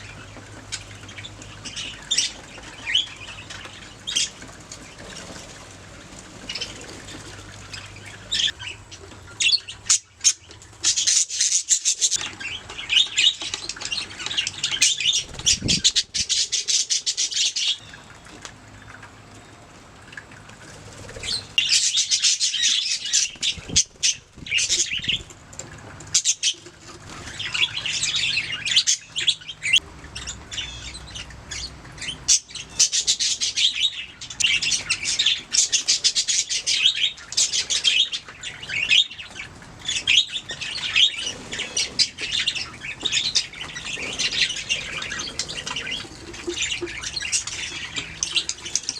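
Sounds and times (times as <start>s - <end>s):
budgerigars chattering and chirping: 0.0s - 5.5s, 6.4s - 18.0s, 21.0s - 25.3s, 26.1s - 48.9s.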